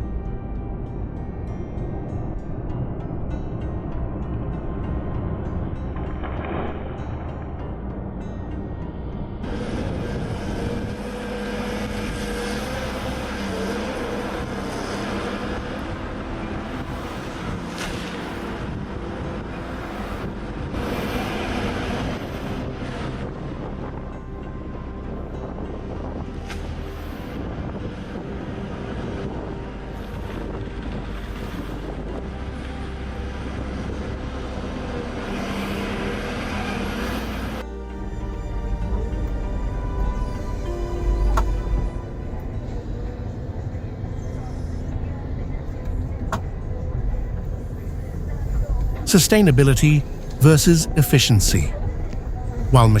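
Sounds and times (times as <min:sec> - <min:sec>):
heavy machine engine droning: 0:02.7 - 0:53.0.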